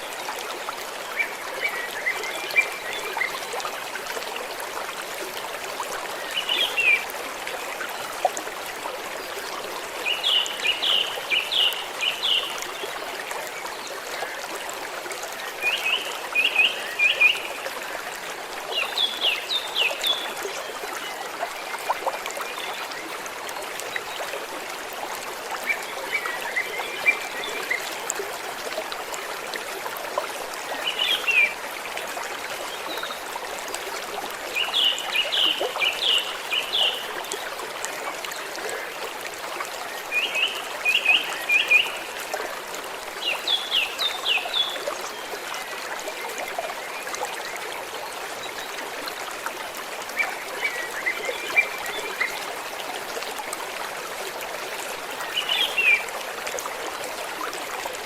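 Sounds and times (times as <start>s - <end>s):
stream water trickling: 0.0s - 58.0s.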